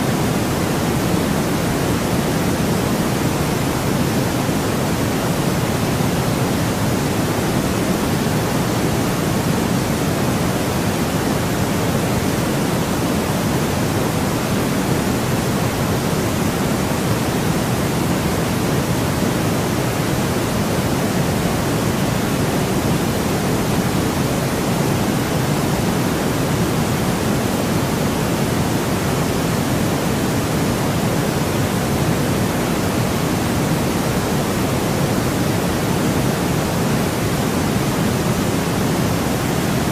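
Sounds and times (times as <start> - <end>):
low white noise hiss: 0.0 - 39.9.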